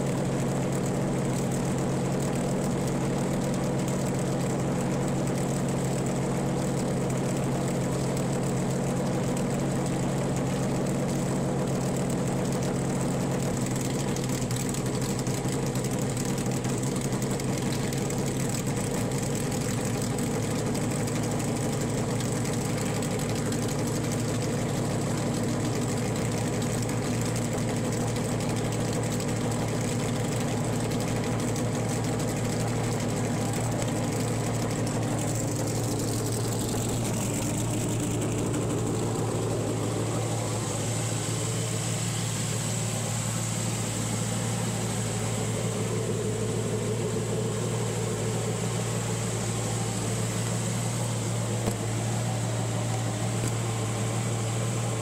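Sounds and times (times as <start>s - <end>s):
race car engine idling: 0.0s - 55.0s.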